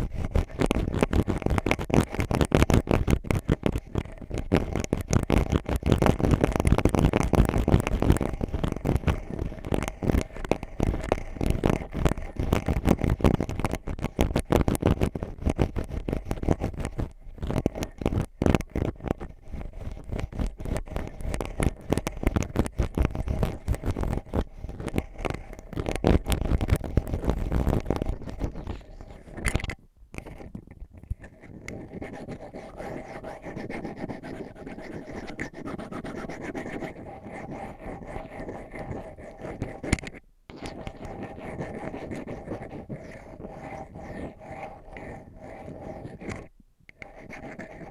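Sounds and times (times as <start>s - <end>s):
ear pick scratching: 0.0s - 47.9s
soft steady rubbing: 0.0s - 47.9s.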